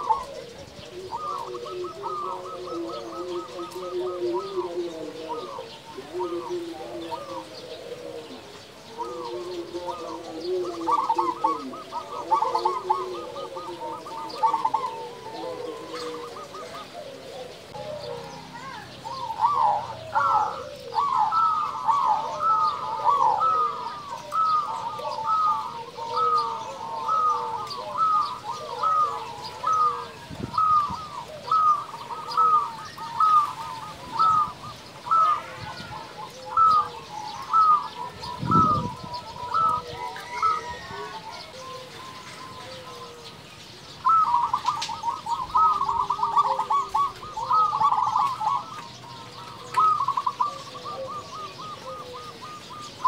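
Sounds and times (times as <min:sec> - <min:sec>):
dove cooing: 0:00.0 - 0:53.0.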